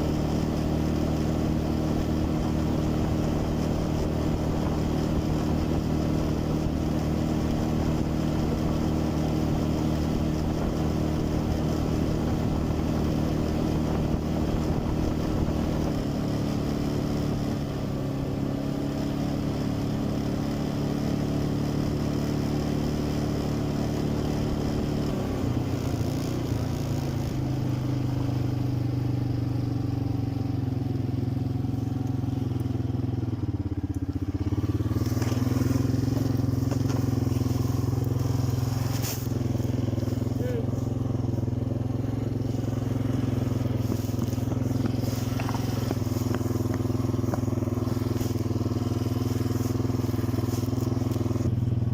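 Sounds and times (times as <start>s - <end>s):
quad bike engine running: 0.0s - 51.9s.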